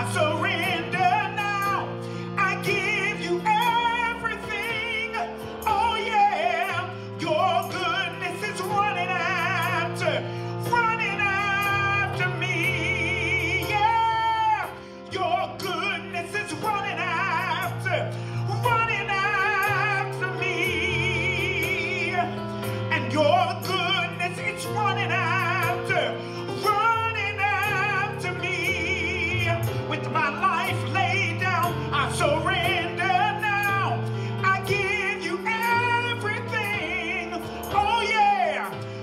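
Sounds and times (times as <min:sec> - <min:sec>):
man singing gospel song: 0:00.0 - 0:39.0.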